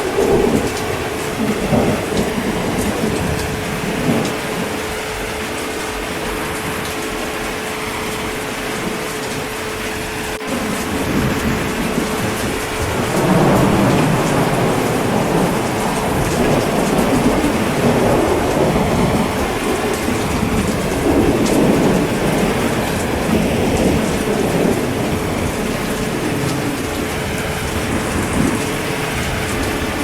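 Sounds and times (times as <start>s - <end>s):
heavy rain falling: 0.0s - 30.0s
low thunder rumbling: 0.0s - 30.0s.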